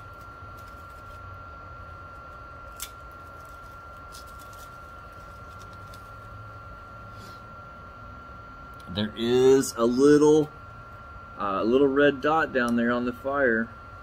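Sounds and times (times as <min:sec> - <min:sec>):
stove fan humming: 0:00.0 - 0:14.0.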